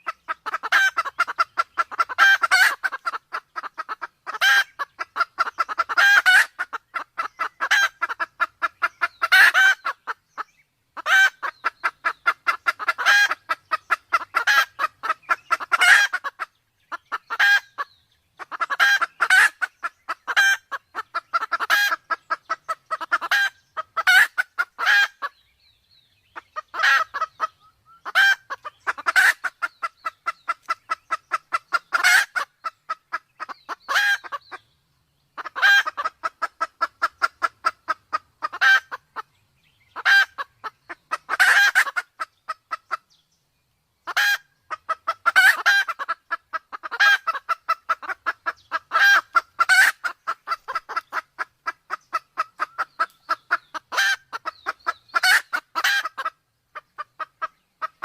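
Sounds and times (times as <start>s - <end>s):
junglefowl clucking: 0.0s - 25.4s, 26.2s - 43.2s, 44.0s - 58.0s.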